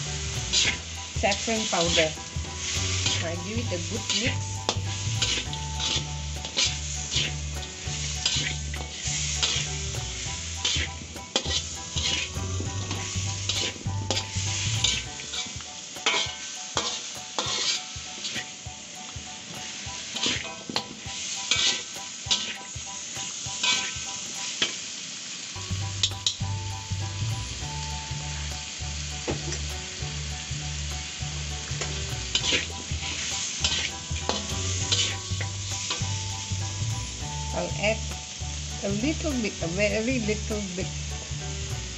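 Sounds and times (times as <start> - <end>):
metal spatula scraping a pan: 0.0 - 18.7, 19.5 - 24.8, 27.0 - 41.9
food sizzling in a frying pan: 0.0 - 41.9.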